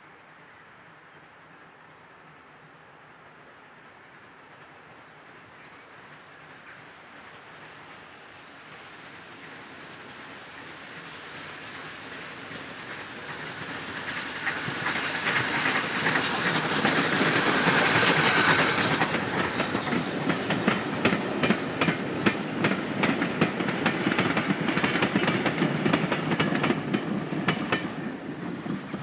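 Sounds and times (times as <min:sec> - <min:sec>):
steam train passing: 0:00.1 - 0:29.0.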